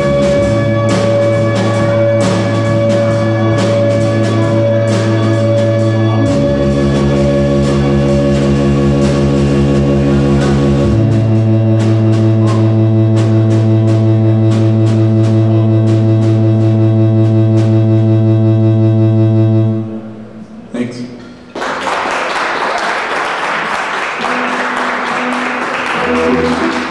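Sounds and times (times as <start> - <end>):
low droning notes: 0.0 - 21.6, 24.3 - 26.9.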